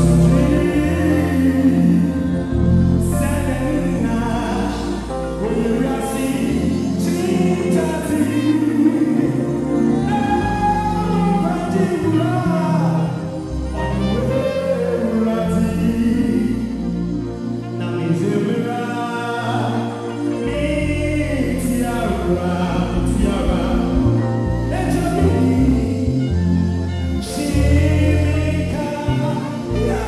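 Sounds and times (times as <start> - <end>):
band playing: 0.0 - 30.0
man singing into microphone: 0.0 - 30.0
voices singing along: 0.0 - 30.0.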